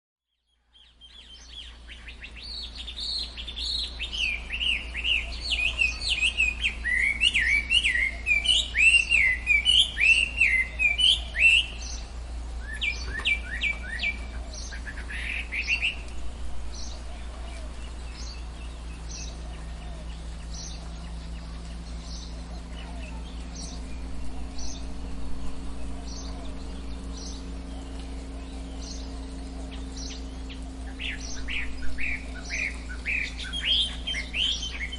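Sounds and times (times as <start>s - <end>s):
bird warbling song: 0.3s - 34.9s
steady low hum: 0.3s - 34.9s.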